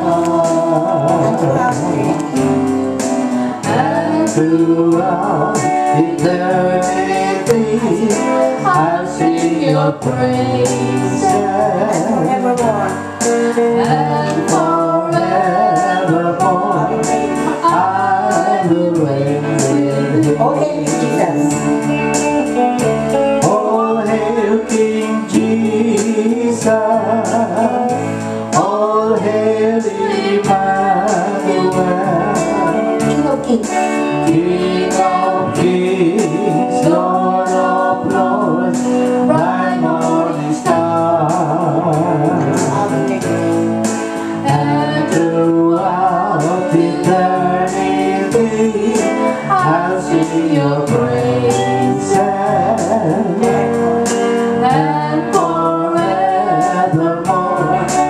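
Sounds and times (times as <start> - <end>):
people singing: 0.0 - 22.5, 23.1 - 58.0
strummed acoustic guitar: 0.0 - 58.0.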